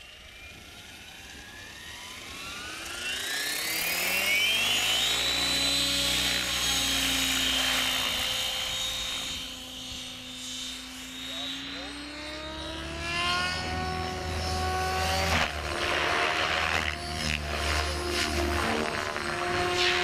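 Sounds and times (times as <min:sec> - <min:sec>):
electric helicopter motor whine: 0:00.0 - 0:20.0.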